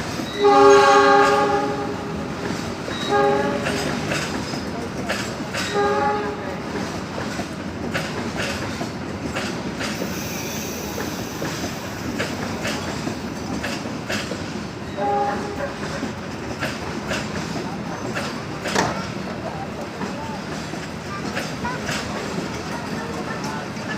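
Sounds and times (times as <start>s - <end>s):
train rumbling: 0.0s - 23.9s
wheels clacking over rail joints: 0.2s - 23.9s.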